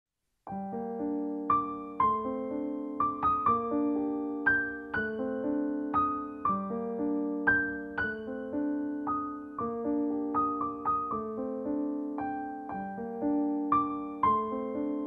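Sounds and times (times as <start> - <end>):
slow gentle keyboard music: 0.4 - 15.0.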